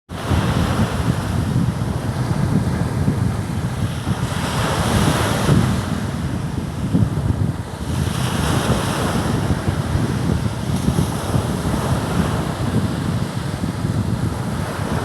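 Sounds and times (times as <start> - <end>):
wind buffeting microphone: 0.1 - 15.0
sea waves washing in: 0.2 - 15.0.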